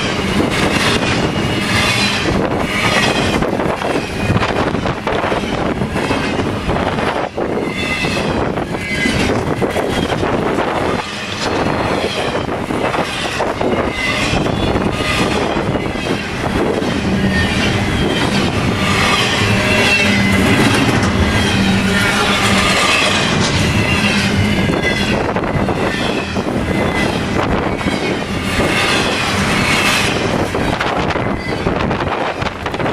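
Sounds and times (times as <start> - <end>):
high-pitched wheel squeal: 0.0 - 32.5
freight train rolling rumble: 0.0 - 32.9
wheels clicking over rail joints: 0.0 - 32.9.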